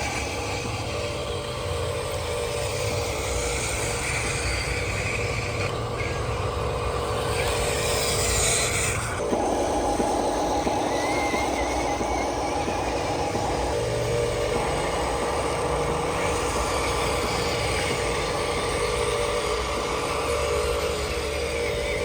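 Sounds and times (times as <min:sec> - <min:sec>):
model truck motor drone: 0:00.0 - 0:22.0.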